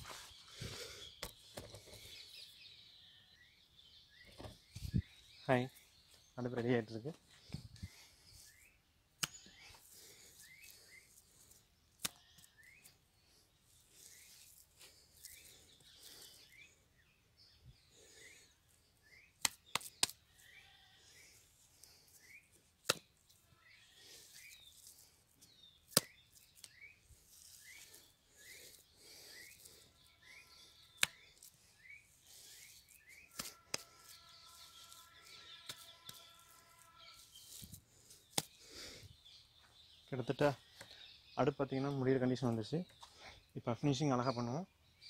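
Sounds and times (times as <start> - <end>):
bird chirping: 0.0 - 22.6, 23.4 - 45.0.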